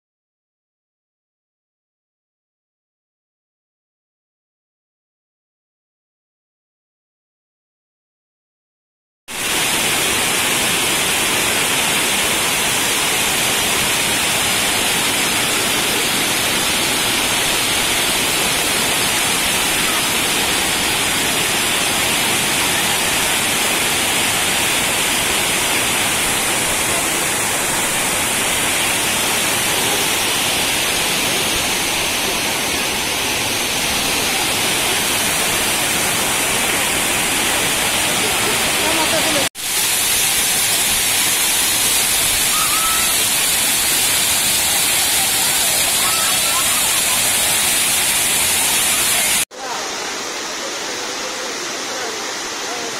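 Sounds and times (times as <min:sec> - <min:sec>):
waterfall splashing into pool: 0:09.3 - 0:52.9.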